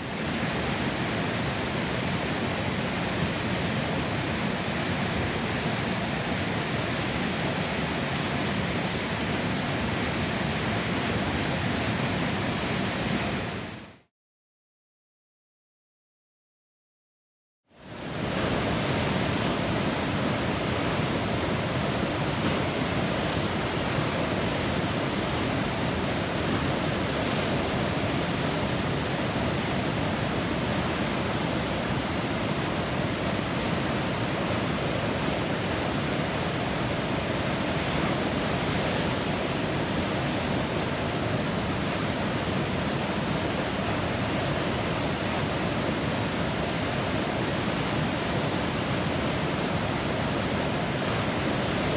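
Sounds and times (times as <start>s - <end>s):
river rapids rushing: 0.0s - 13.8s, 17.9s - 51.9s.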